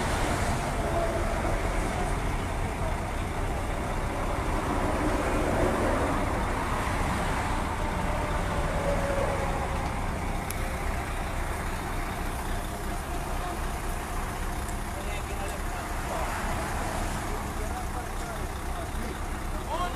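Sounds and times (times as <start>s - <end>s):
traffic rumble: 0.0s - 19.9s.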